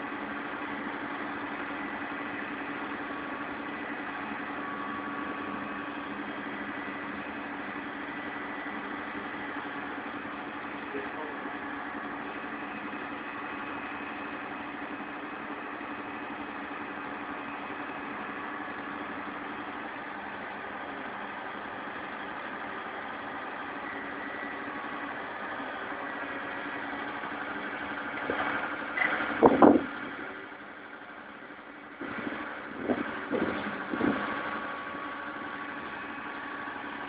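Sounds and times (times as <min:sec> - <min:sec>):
concrete pump humming: 0:00.0 - 0:37.0.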